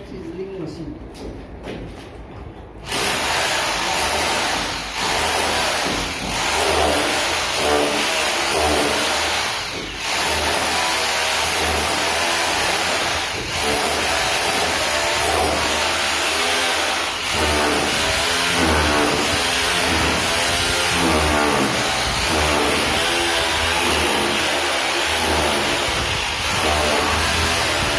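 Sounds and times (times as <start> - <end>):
hammer drill drilling into brick: 2.8 - 27.9.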